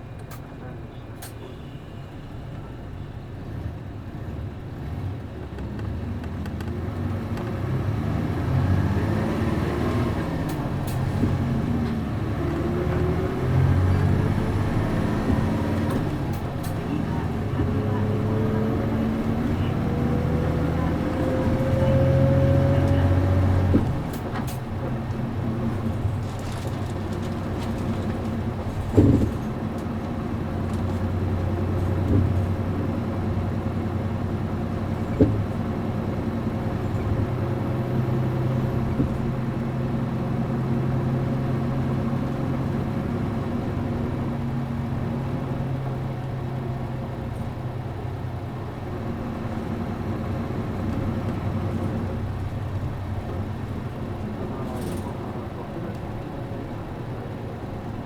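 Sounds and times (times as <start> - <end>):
bus diesel engine whining: 0.0 - 58.0.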